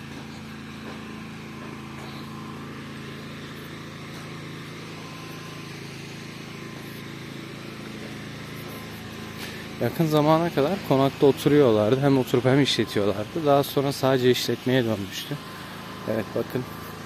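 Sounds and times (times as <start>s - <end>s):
motor idling drone: 0.0s - 17.0s.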